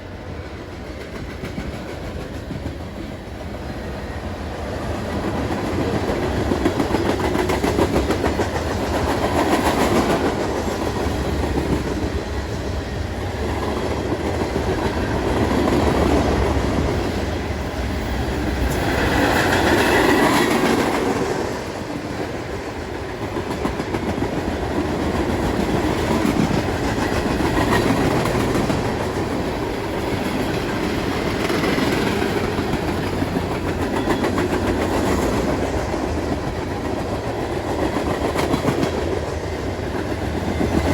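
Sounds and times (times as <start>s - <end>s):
train wheels clickety-clack: 0.0s - 40.9s.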